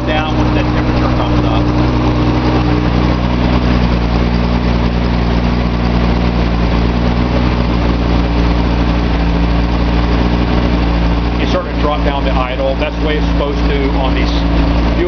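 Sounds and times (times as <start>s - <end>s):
car engine running at raised idle: 0.0s - 15.0s.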